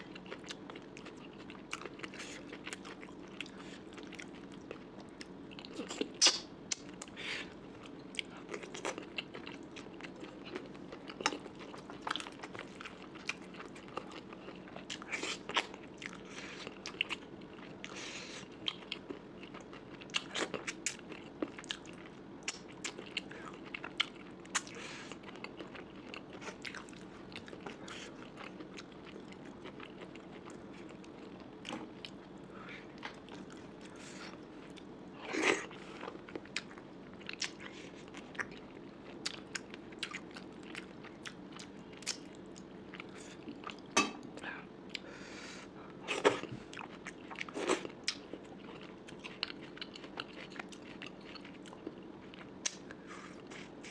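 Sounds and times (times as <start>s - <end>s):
person chewing and crunching: 0.0s - 45.1s, 46.0s - 53.9s.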